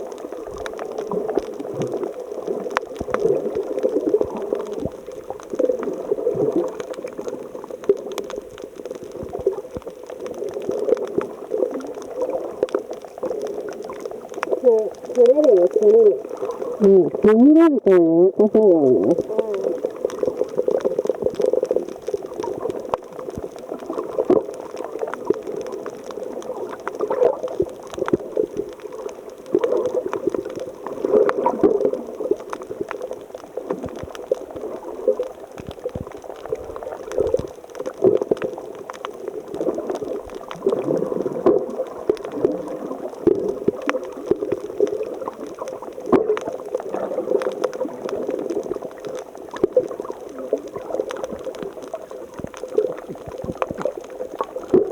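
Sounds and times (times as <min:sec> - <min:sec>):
water bubbling and gurgling: 0:00.0 - 0:54.9.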